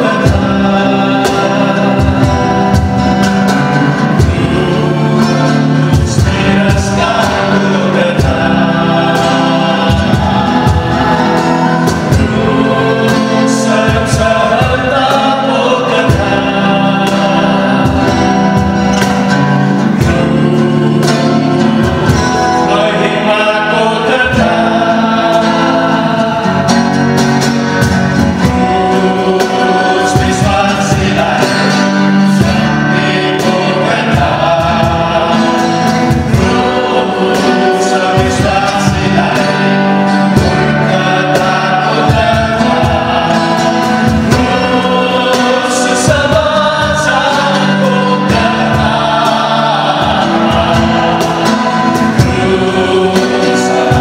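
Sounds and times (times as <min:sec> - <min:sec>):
cajon beat: 0:00.0 - 0:54.0
group singing in harmony: 0:00.0 - 0:54.0
strummed acoustic guitar: 0:00.0 - 0:54.0.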